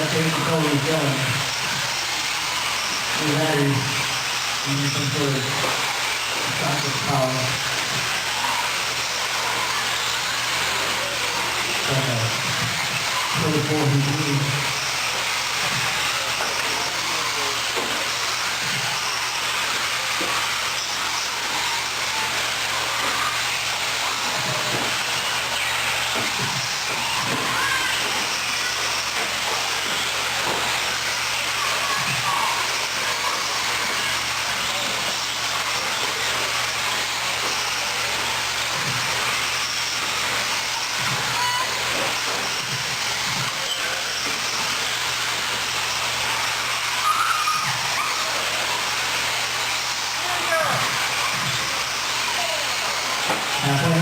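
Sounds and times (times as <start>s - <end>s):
rc trucks racing hiss: 0.0s - 54.0s.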